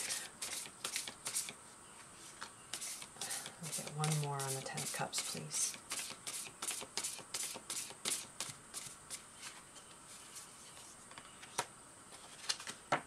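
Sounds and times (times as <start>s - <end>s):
cards being shuffled: 0.0s - 1.6s, 2.4s - 9.6s, 10.3s - 13.0s.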